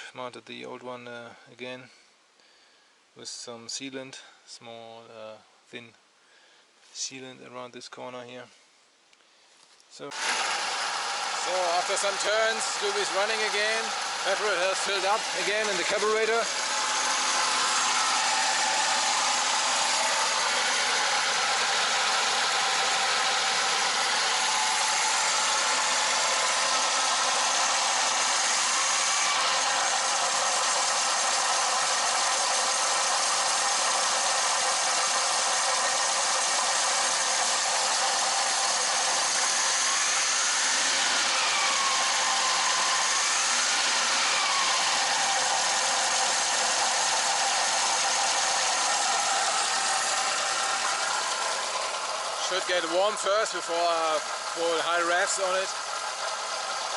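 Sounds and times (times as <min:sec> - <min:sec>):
petrol engine idling: 0:10.1 - 0:56.9.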